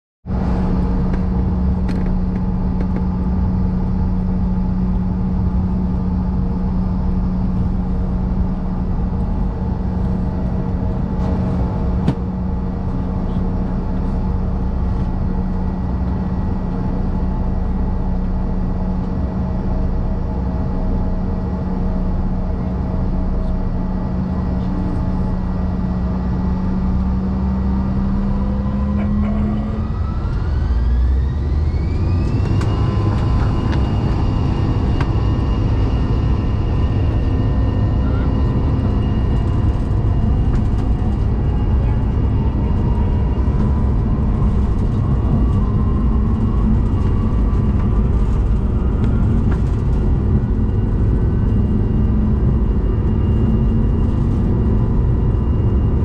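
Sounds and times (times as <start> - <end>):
jet engines idling: 0.3 - 56.0
rising engine whine: 0.3 - 56.0.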